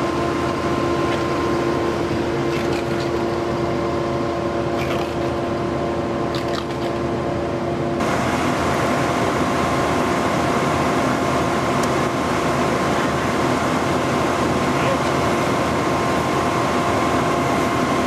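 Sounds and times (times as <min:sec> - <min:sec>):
drilling rig engine hum: 0:00.0 - 0:18.0.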